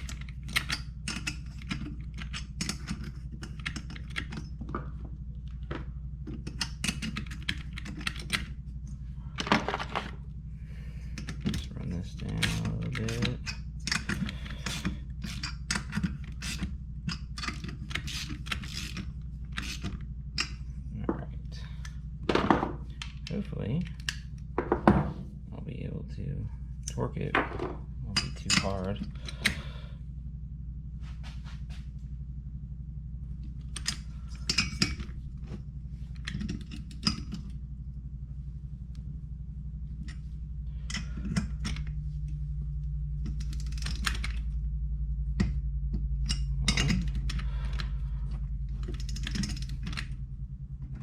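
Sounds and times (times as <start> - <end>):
low hum: 0.0 - 51.0.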